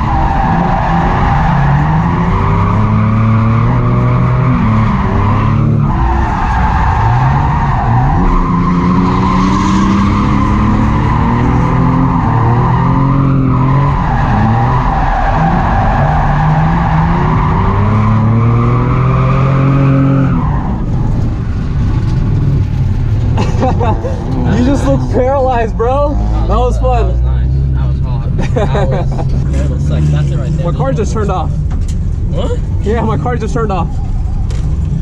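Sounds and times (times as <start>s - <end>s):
tires squealing: 0.0s - 31.7s, 32.3s - 35.0s
car engine revving: 0.0s - 35.0s.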